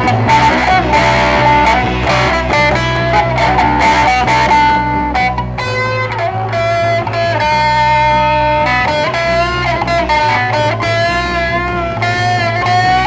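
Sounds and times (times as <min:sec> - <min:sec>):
bass line: 0:00.0 - 0:13.0
electric guitar lead notes: 0:00.0 - 0:13.0.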